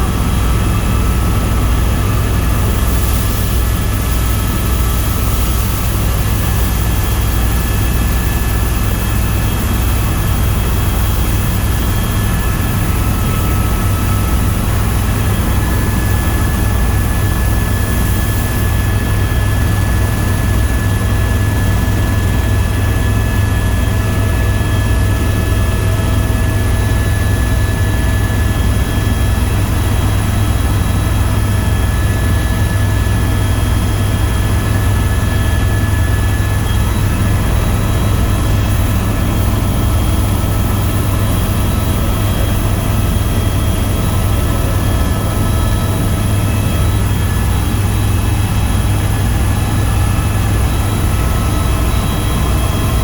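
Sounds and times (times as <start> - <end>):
faint steady whines: 0.0 - 53.0
helicopter rotor and turbine noise: 0.0 - 53.0.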